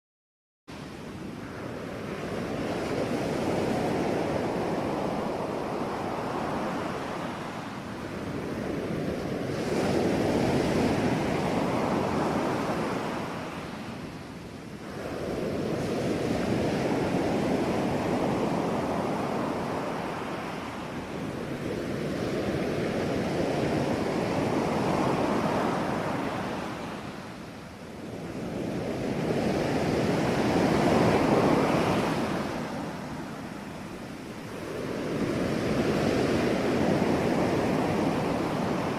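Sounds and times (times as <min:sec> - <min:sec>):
ocean waves breaking: 0:00.7 - 0:38.9.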